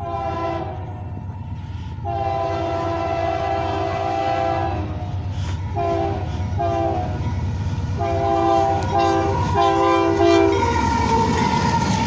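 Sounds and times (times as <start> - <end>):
locomotive air horn blasts: 0.0 - 1.2, 2.0 - 7.2, 8.0 - 11.7
diesel train rumble: 0.0 - 12.0.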